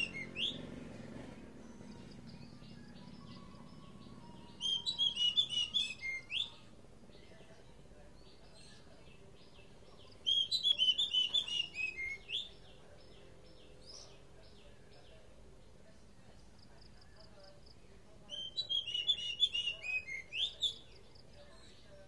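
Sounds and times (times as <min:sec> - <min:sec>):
bird singing rapid notes: 0:00.0 - 0:15.8, 0:17.6 - 0:22.0
faint bird chirps: 0:00.0 - 0:22.0.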